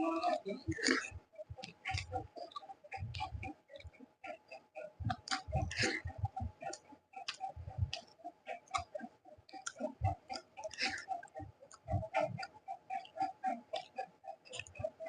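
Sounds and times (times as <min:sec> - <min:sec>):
steady regular ticking: 0:00.0 - 0:15.0.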